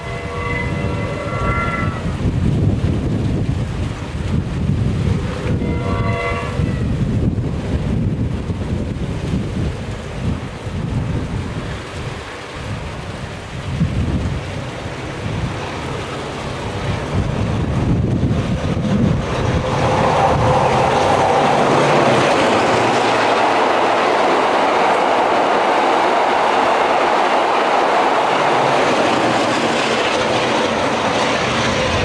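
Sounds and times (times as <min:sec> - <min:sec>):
diesel train rumbling: 0:00.0 - 0:32.0
train wheels rushing on rails: 0:00.0 - 0:32.0.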